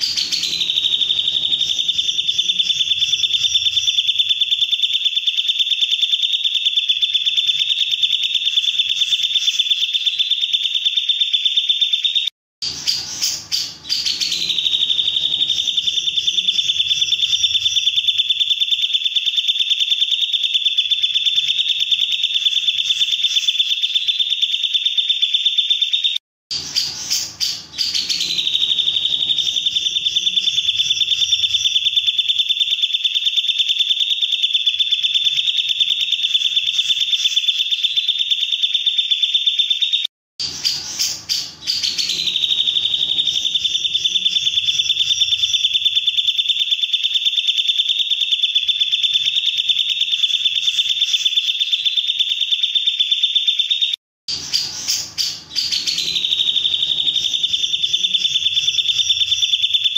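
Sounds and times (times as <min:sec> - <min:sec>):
bird chatter: 0:00.0 - 0:59.9.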